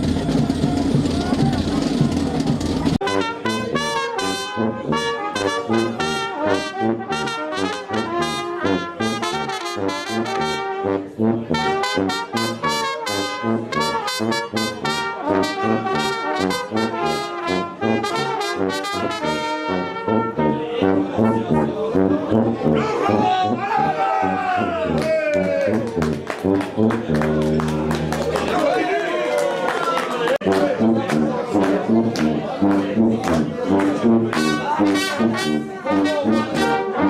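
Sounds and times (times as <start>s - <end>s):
brass band playing lively tune: 0.0s - 28.8s, 30.2s - 37.0s.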